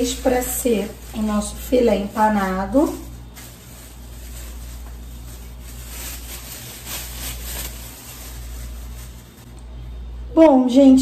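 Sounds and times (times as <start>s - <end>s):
plastic bag rustling: 0.0s - 9.6s
steady low hum: 0.0s - 11.0s.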